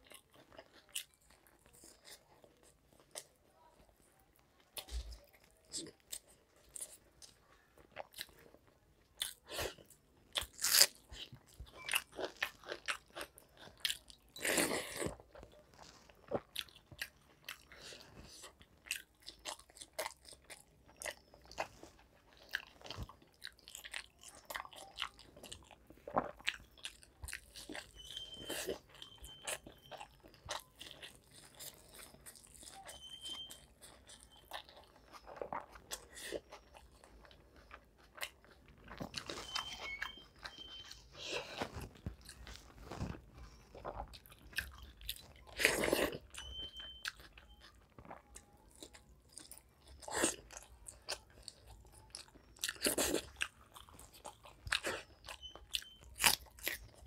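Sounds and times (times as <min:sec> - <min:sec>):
person crunching fried food: 0:00.0 - 0:03.4, 0:04.8 - 0:57.0.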